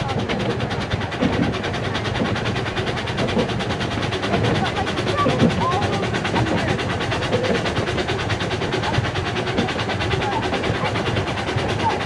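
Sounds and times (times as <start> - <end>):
steam train rumble: 0.0 - 12.0
wheels rattling on track: 0.0 - 12.0.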